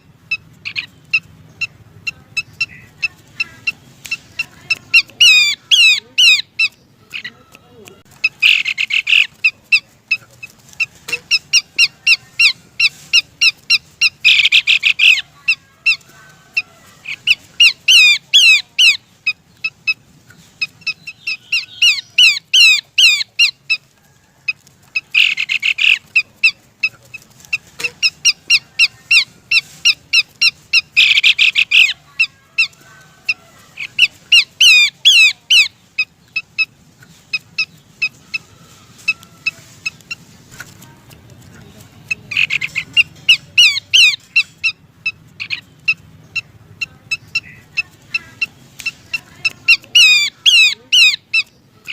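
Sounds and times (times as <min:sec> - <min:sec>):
bird chirps and trills: 0:00.0 - 0:23.9, 0:24.5 - 0:40.8, 0:41.5 - 0:51.9
harsh bird chattering: 0:00.0 - 0:51.9.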